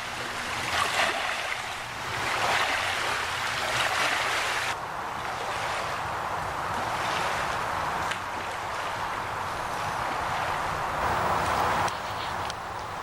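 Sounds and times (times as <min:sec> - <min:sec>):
water lapping at shore: 0:00.0 - 0:13.0.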